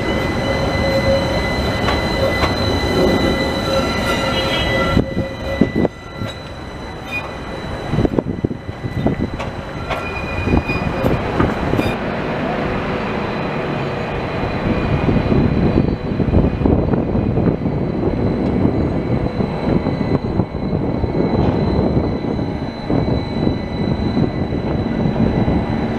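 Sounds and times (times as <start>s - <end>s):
tram wheels clacking on rails: 0.0s - 25.9s
tram wheels squealing: 0.0s - 25.9s.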